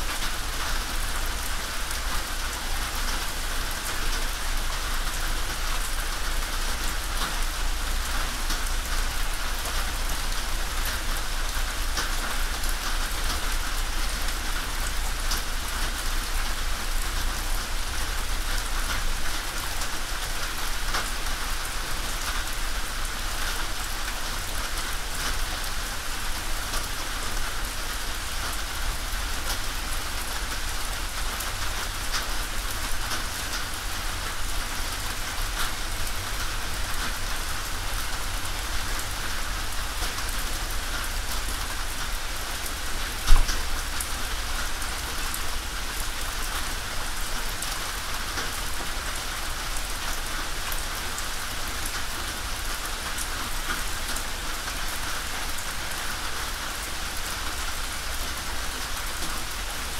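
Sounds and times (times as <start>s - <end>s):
rain drumming on a tin roof: 0.0s - 59.9s.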